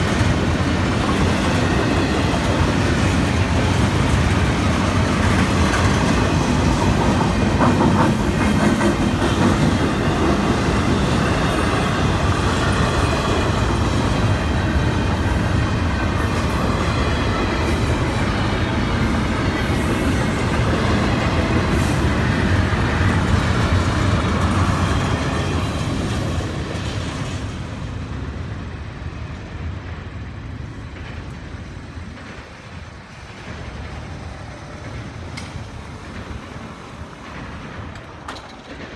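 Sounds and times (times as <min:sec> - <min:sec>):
freight train wheels clacking on rails: 0:00.0 - 0:27.9, 0:29.6 - 0:38.9.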